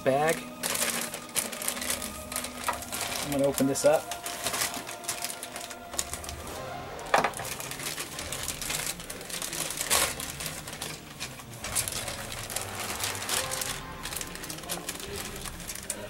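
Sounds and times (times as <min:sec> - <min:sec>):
loud plastic crackles: 0:00.0 - 0:16.0
plastic bag crinkling: 0:00.0 - 0:16.0.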